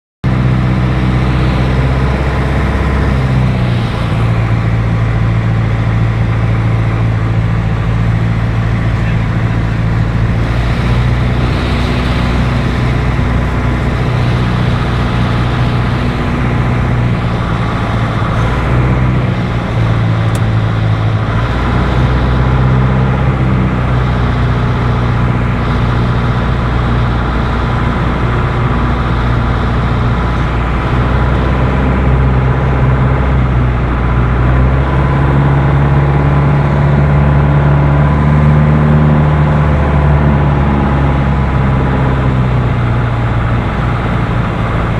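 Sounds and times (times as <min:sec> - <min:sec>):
light aircraft engine droning: 0:00.2 - 0:44.9.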